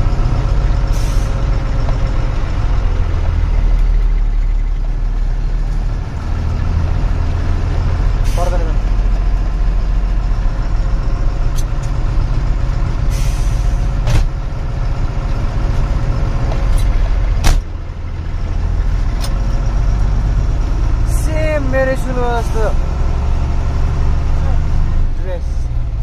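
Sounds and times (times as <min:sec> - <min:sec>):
truck diesel engine rumble: 0:00.0 - 0:26.0.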